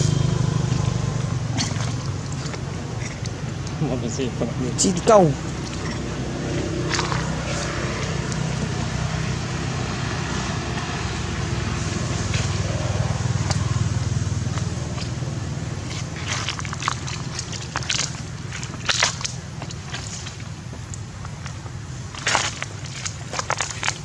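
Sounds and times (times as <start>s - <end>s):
low rumble: 0.0s - 22.2s.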